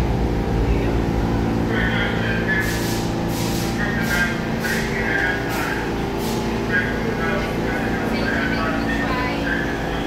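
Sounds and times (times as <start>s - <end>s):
regular train clatter: 0.0s - 10.0s
subway train rumble and hum: 0.0s - 10.0s.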